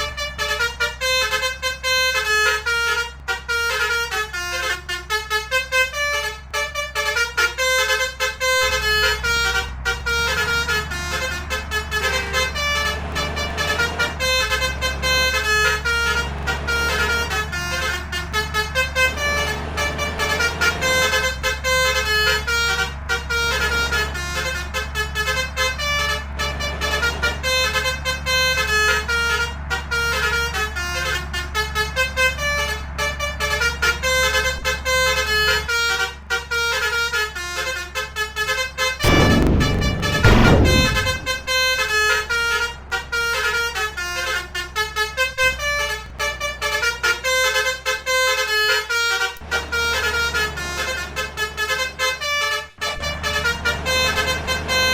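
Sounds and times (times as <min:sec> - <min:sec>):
engine hum: 0:00.0 - 0:54.9
multi-tone air horn melody: 0:00.0 - 0:54.9.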